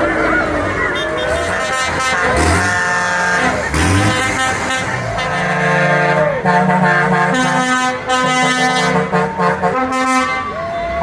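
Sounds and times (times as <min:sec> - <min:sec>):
vehicle horns sounding: 0:00.7 - 0:11.0.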